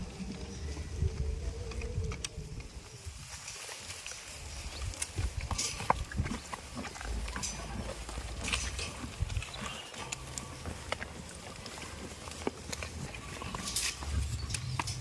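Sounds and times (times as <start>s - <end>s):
goats' hooves clicking and knocking: 0.0s - 15.0s.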